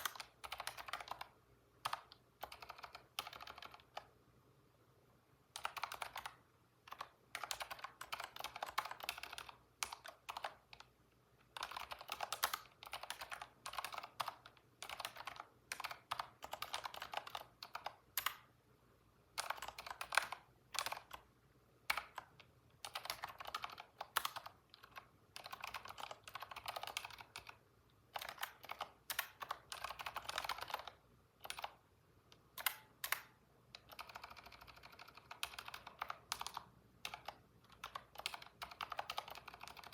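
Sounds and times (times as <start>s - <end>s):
computer keyboard typing: 0.0s - 4.1s, 5.5s - 18.5s, 19.3s - 39.9s.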